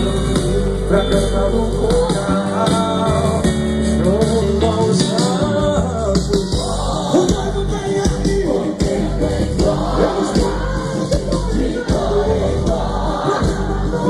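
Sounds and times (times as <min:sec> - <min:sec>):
live band playing worship song: 0:00.0 - 0:14.0
person singing: 0:00.0 - 0:14.0.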